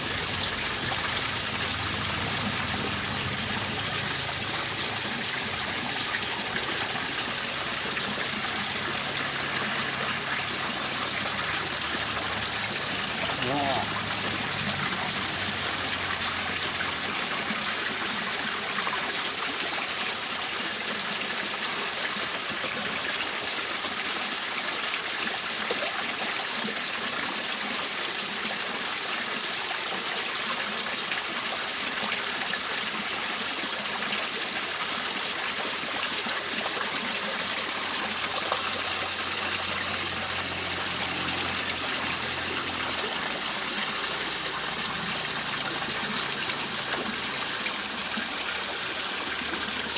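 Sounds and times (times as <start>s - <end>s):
water splashing into pond: 0.0s - 49.9s.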